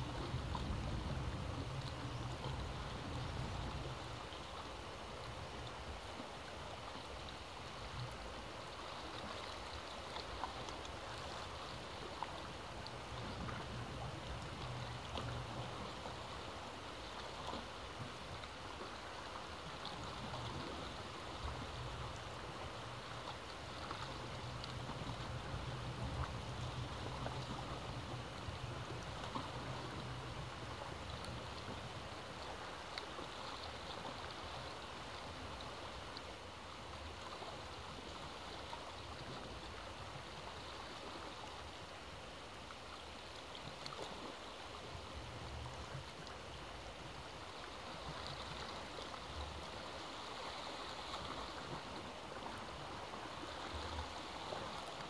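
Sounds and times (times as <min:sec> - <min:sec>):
sea waves washing in: 0:00.0 - 0:55.0.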